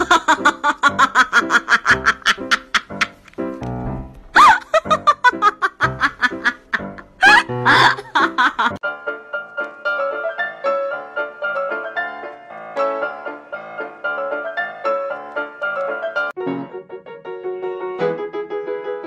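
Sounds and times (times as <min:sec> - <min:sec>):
light plinking piano tune: 0:00.0 - 0:19.0.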